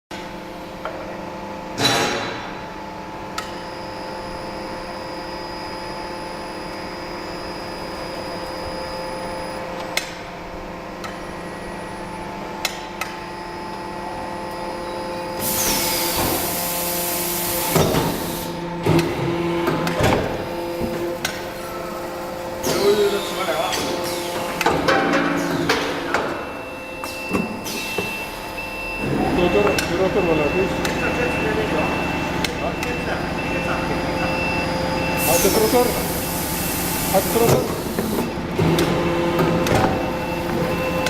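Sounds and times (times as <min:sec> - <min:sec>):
die-casting machine humming: 0:00.4 - 0:41.0.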